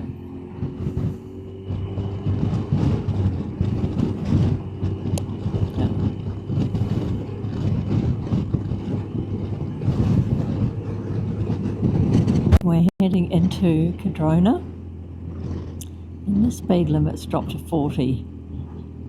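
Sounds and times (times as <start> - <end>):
motorcycle engine running: 0.0 - 19.0
wind rush: 0.0 - 19.0.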